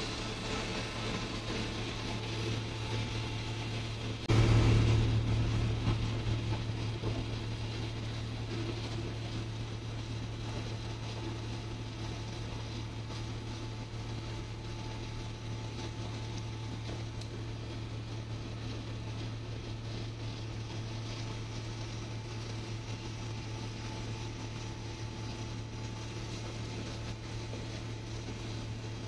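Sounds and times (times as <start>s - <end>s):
ship machinery drone: 0.0s - 29.0s.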